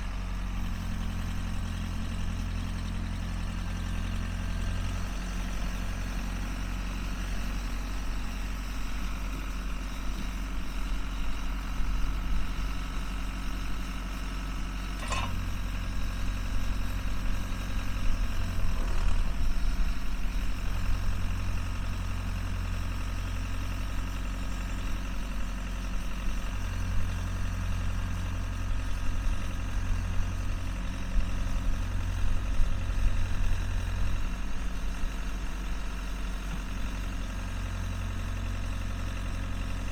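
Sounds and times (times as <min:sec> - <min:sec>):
backhoe engine idling: 0:00.0 - 0:39.9.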